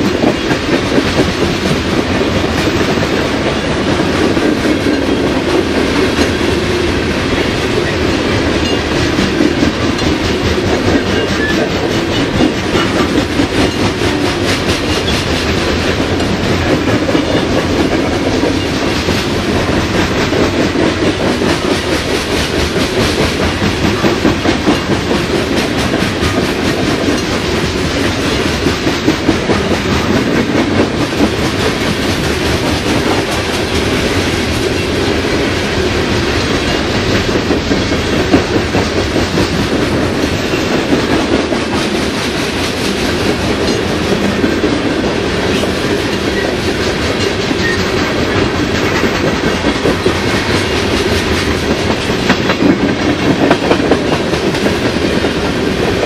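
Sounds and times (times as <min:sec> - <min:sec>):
freight train wheels rumbling on rail: 0:00.0 - 0:56.0
wheels clicking over rail joints: 0:00.0 - 0:56.0.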